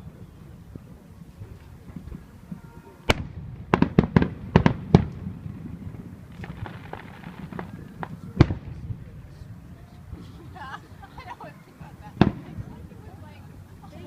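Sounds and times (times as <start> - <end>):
fireworks bangs: 0.0 - 13.6
fireworks crackle: 0.0 - 14.0.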